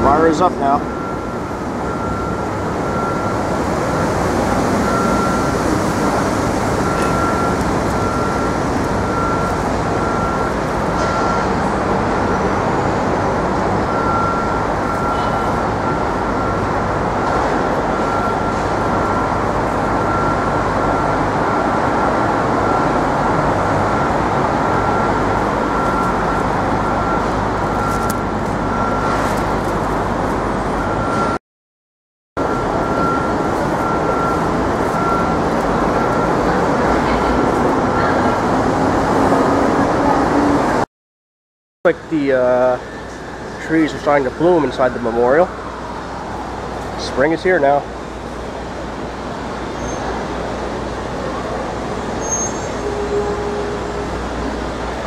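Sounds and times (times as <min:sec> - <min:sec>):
city traffic: 0:00.0 - 0:31.4, 0:32.4 - 0:40.9, 0:41.8 - 0:55.0
construction site rumble: 0:00.0 - 0:31.4, 0:32.4 - 0:40.8, 0:41.9 - 0:55.0.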